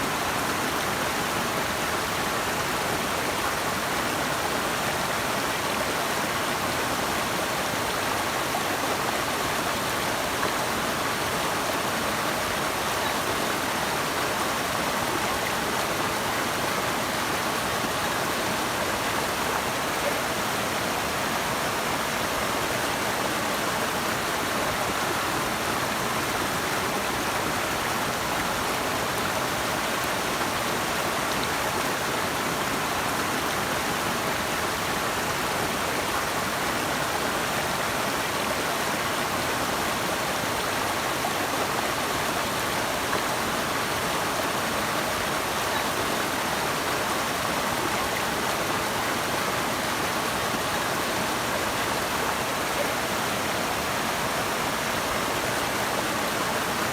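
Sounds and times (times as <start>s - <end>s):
running water rushing: 0.0s - 56.9s.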